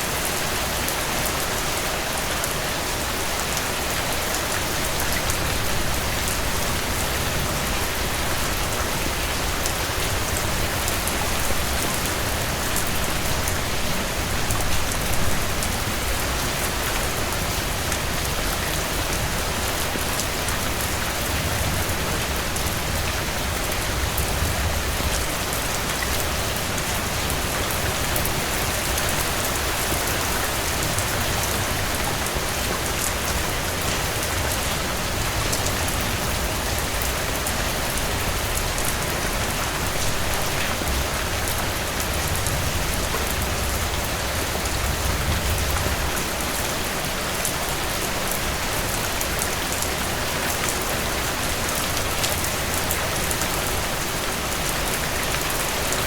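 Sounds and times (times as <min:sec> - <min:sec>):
heavy rain on a porch: 0:00.0 - 0:56.0.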